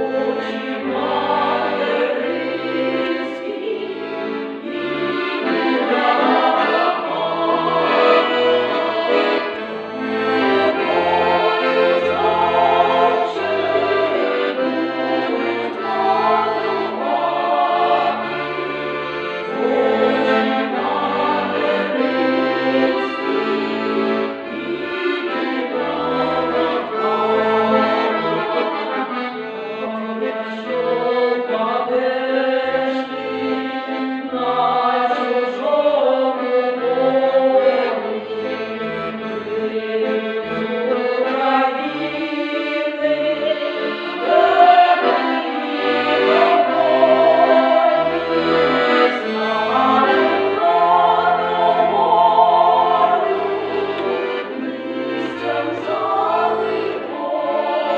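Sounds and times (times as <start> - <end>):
mixed choir singing: 0.0 - 29.4, 30.2 - 57.9
accordion playing folk song: 0.0 - 57.9.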